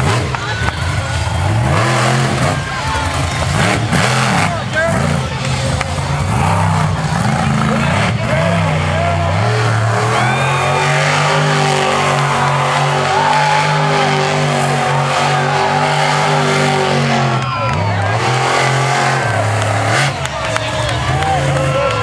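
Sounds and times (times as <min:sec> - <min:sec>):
crowd chattering: 0:00.0 - 0:22.0
truck engine revving hard: 0:00.0 - 0:22.0.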